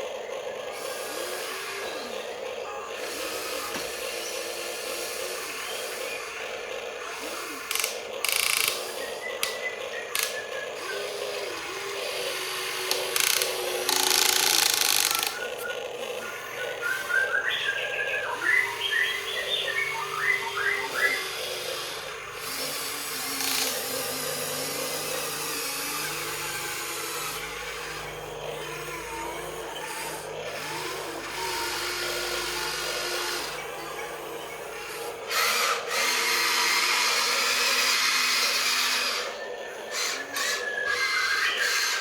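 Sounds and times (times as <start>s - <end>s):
small electric motors whirring: 0.0s - 42.0s.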